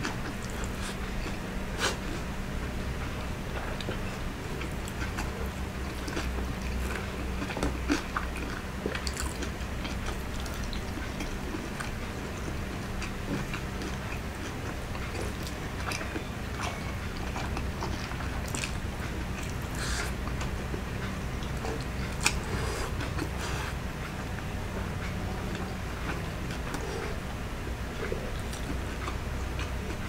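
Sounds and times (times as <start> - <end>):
crunchy chewing: 0.0 - 24.5, 25.4 - 30.0
steady low hum: 0.0 - 30.0.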